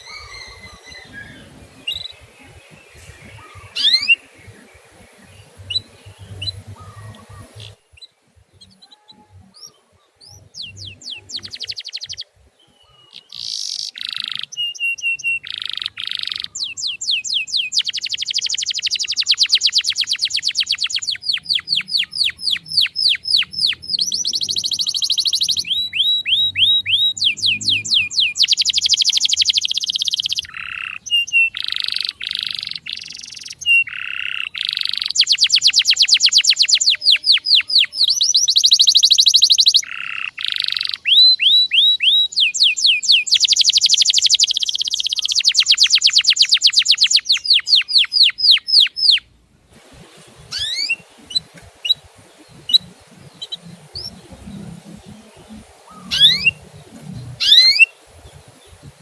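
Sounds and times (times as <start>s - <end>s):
bird chirps: 0.0s - 49.3s, 50.2s - 59.0s
canary singing trills: 0.0s - 49.3s, 50.2s - 59.0s.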